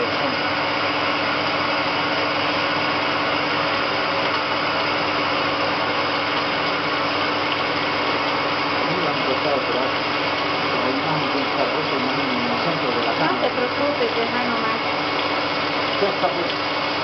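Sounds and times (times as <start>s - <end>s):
coolant and cutting hiss: 0.0s - 17.0s
lathe machine whirring: 0.0s - 17.0s.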